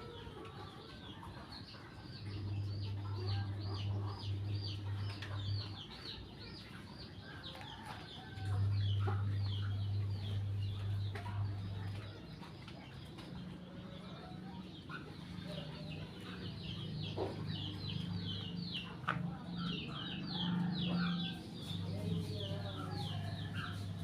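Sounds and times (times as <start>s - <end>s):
birds chirping: 0.0s - 24.0s
steady low hum: 0.8s - 24.0s.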